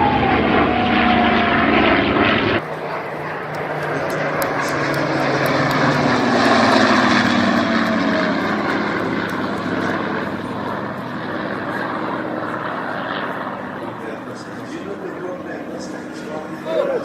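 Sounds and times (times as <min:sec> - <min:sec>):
propeller airplane passing: 0:00.0 - 0:17.0.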